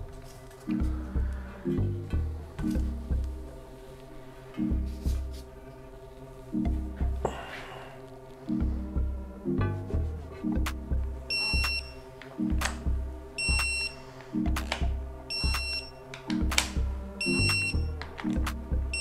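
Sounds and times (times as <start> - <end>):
electronic music with bass beat: 0.0 - 3.8, 4.6 - 5.6, 6.5 - 7.4, 8.5 - 19.0.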